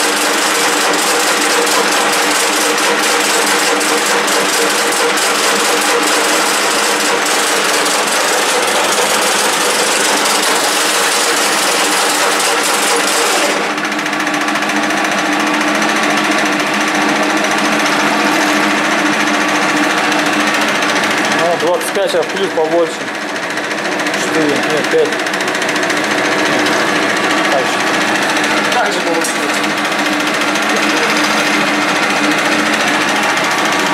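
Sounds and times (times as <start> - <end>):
lathe humming: 0.0 - 33.9.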